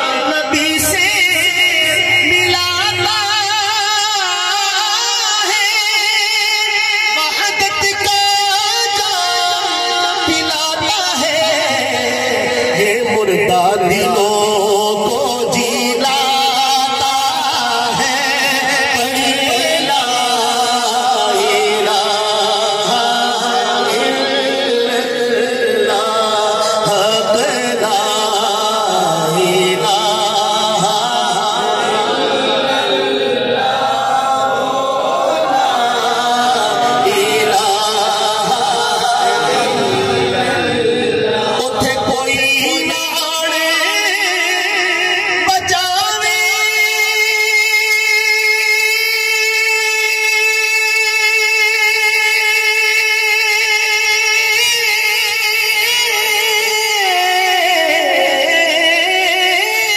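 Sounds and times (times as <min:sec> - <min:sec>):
man chanting into a microphone: 0:00.0 - 0:59.9.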